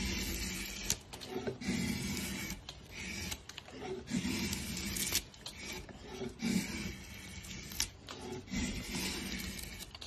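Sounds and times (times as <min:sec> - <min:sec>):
drawknife shaving wood: 0:00.0 - 0:10.0.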